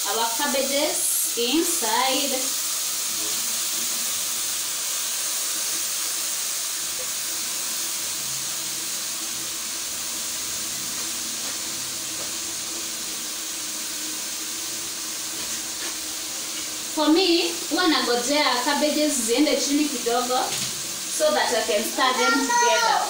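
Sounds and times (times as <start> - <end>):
oil sizzling in a pot: 0.0 - 23.0.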